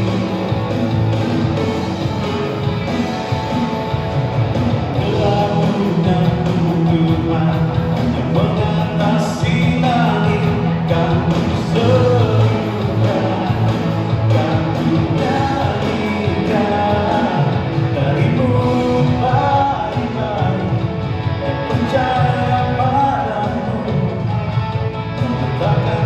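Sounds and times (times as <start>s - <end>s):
electric guitar: 0.0s - 26.0s
person singing: 4.8s - 26.0s.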